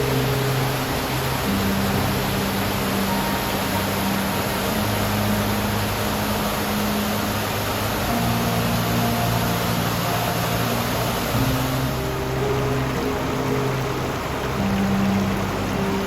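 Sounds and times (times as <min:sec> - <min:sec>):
soft background music: 0:00.0 - 0:16.0
waterfall rushing: 0:00.0 - 0:16.0.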